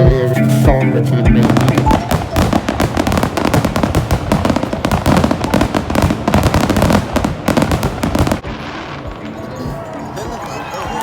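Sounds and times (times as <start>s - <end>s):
music: 0.0s - 6.4s, 7.8s - 11.0s
fireworks crackling and popping: 1.4s - 11.0s.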